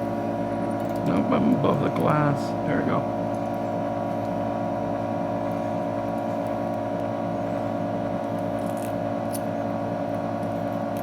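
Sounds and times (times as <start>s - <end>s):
suction pump humming: 0.0s - 11.0s.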